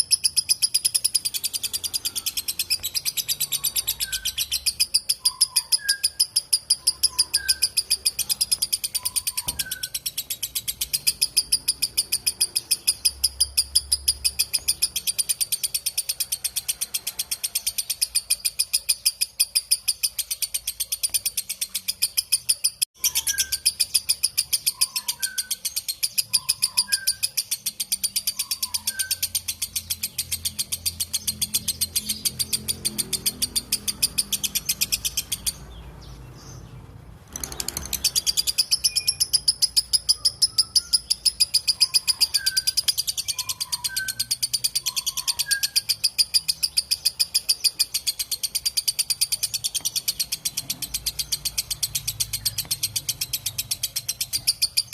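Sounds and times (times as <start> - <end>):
bird chattering trill: 0.0 - 54.9.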